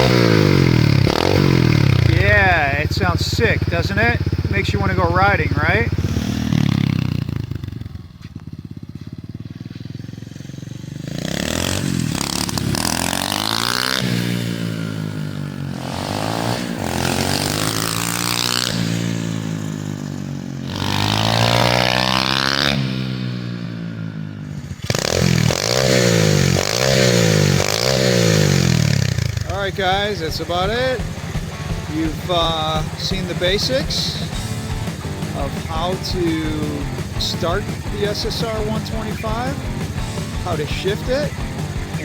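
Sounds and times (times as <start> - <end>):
motorbike engine revving: 0.0 - 42.0.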